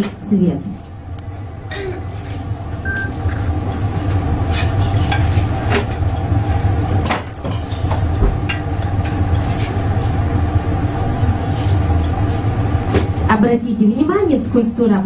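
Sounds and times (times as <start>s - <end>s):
low machine drone: 0.0s - 15.0s.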